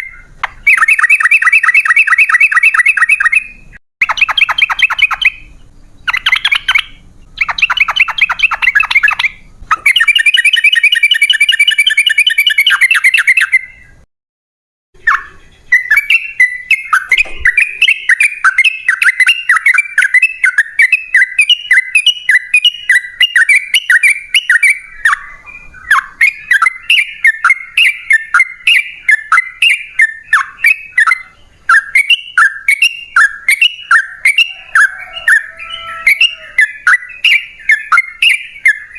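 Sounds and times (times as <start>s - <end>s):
bulbul singing: 0.0s - 14.1s, 15.0s - 38.9s.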